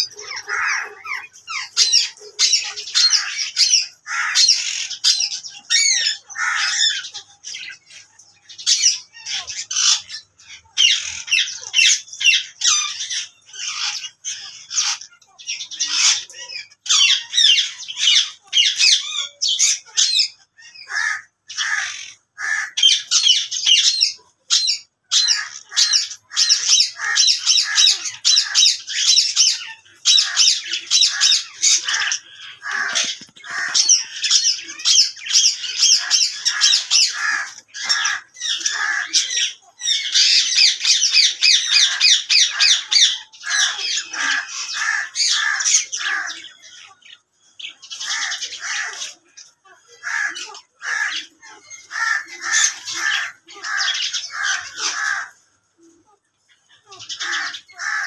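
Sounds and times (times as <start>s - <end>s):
parakeets squawking and chattering: 0.0s - 58.0s.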